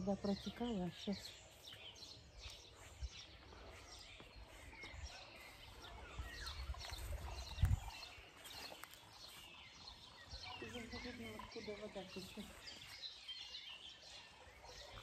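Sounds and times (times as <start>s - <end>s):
nightingales chirping and trilling: 0.0s - 15.0s.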